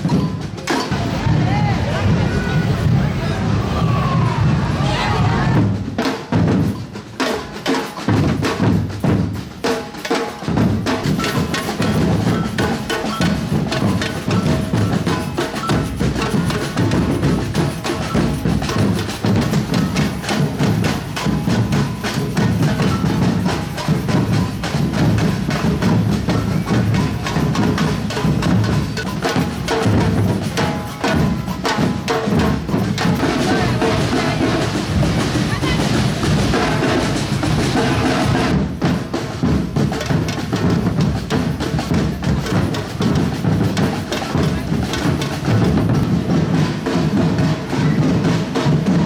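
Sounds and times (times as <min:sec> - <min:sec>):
bass drums: 0:00.0 - 0:06.8, 0:10.5 - 0:49.0
snare drums: 0:00.0 - 0:49.0
clacking block percussion: 0:06.6 - 0:49.0.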